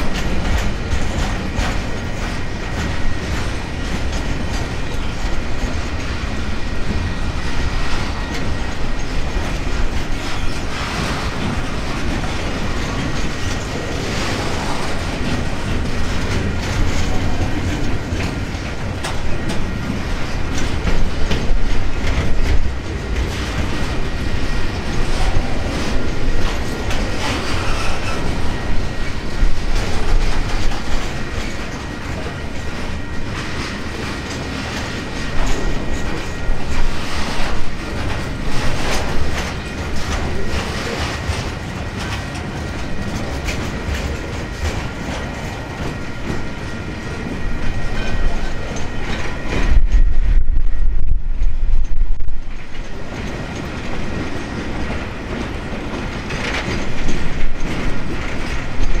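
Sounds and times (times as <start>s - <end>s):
wheels clacking over rail joints: 0.0s - 50.6s, 51.4s - 59.0s
freight train rumbling past: 0.0s - 59.0s.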